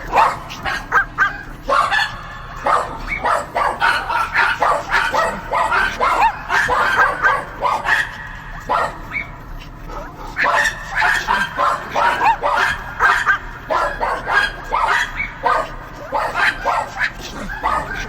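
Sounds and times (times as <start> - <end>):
dogs barking and yipping: 0.0 - 18.0.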